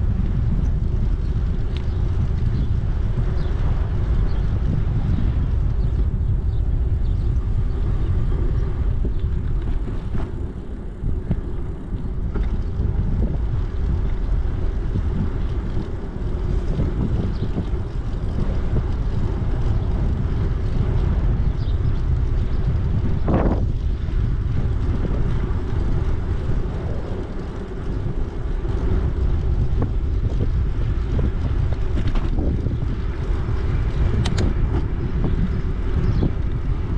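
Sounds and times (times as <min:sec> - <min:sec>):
wind rumbling on microphone: 0:00.0 - 0:36.9.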